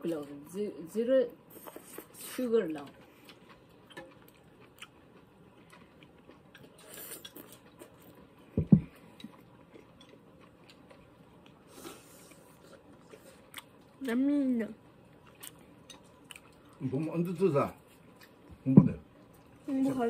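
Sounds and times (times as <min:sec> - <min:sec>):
person chewing food: 0:01.5 - 0:14.2, 0:15.0 - 0:16.9, 0:17.8 - 0:19.6.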